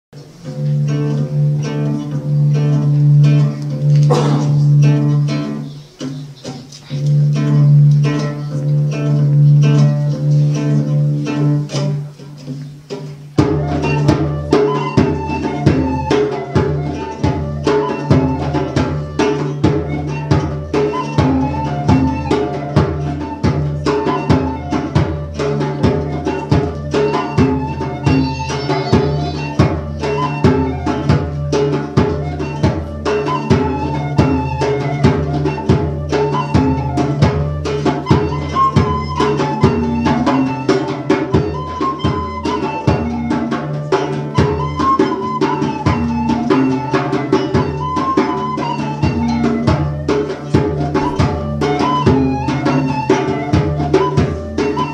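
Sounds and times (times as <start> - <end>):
high flute melody: 0.2 - 12.8, 13.4 - 54.9
goblet drum: 0.2 - 54.9
plucked lute: 0.2 - 54.9.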